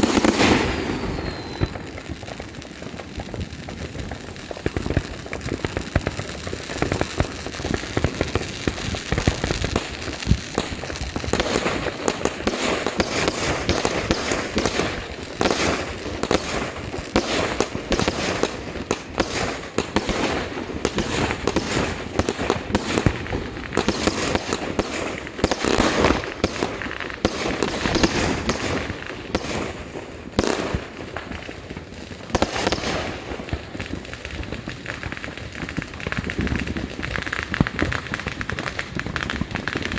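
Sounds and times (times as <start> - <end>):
fireworks and firecrackers popping: 0.0 - 39.9.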